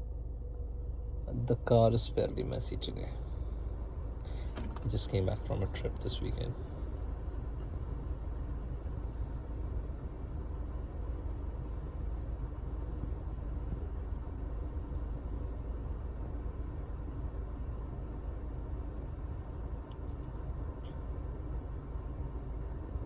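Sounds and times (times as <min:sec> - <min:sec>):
low rumble in car cabin: 0:00.0 - 0:23.0.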